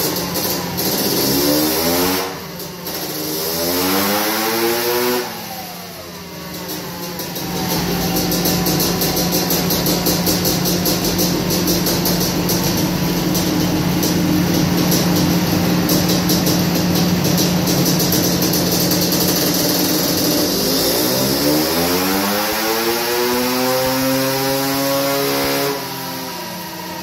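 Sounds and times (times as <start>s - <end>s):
two-stroke engine revving: 0.0s - 27.0s.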